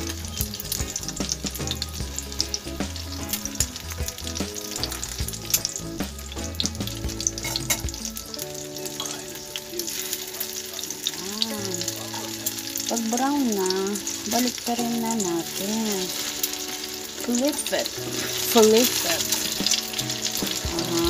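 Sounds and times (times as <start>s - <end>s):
rice cake sizzling in hot oil: 0.0s - 21.0s.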